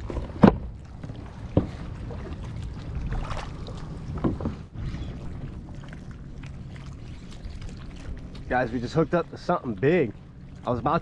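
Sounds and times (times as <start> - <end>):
wind: 0.0 - 11.0
water wash: 0.7 - 11.0.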